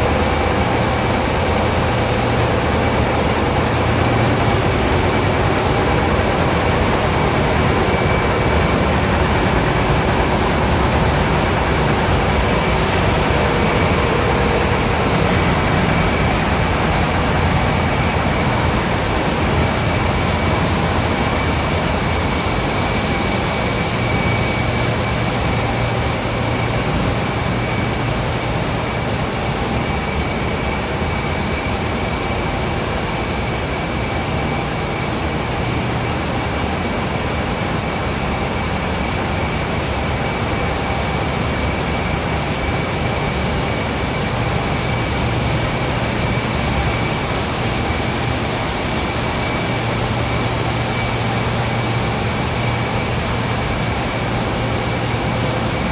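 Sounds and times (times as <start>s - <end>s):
constant high whine: 0.0s - 55.9s
machine rollers mechanical din: 0.0s - 55.9s.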